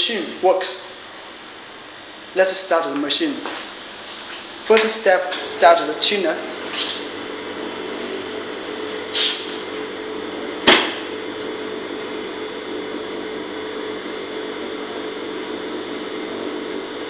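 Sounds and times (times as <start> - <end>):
water chiller humming: 0.0 - 17.0.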